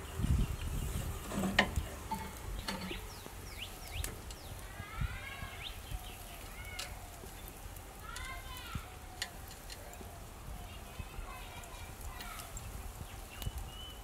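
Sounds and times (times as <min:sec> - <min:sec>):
animals chirping calls: 0:01.8 - 0:14.0.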